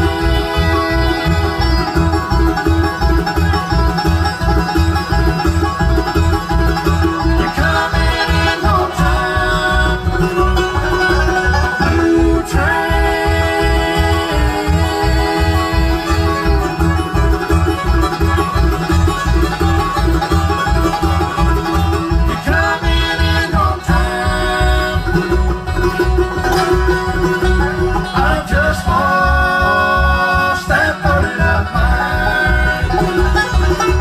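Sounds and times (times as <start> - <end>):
banjo rolls: 0.0 - 34.0
steady bass beat: 0.0 - 34.0
strummed acoustic guitar: 0.0 - 34.0.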